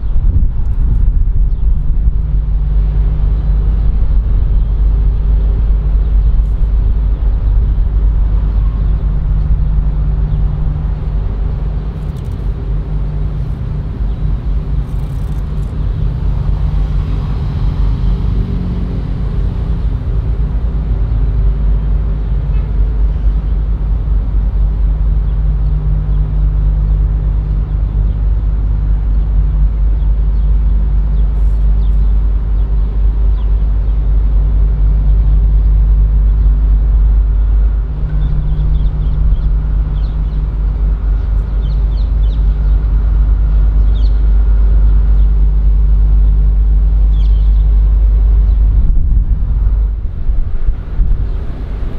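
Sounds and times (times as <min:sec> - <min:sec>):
low engine rumble: 0:00.0 - 0:51.9.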